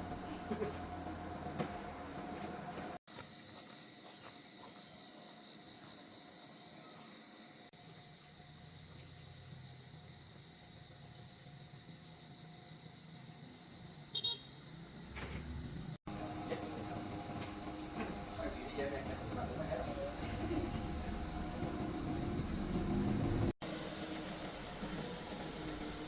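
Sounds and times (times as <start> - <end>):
insects chirping in a trill: 0.1 - 23.6.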